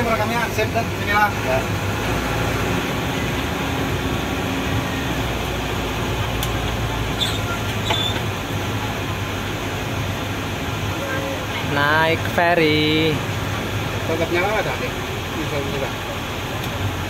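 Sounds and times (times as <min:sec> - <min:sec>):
car engine hum and tyre noise: 0:00.0 - 0:17.0.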